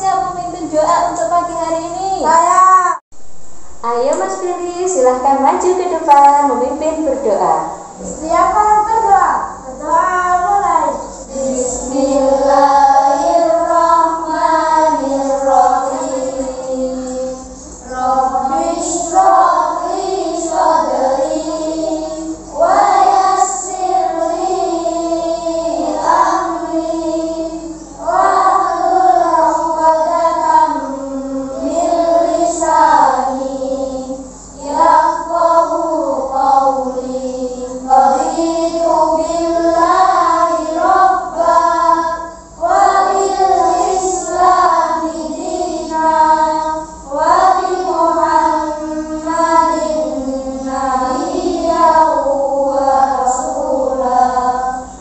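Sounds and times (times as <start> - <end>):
children chanting in unison: 9.5 - 55.0.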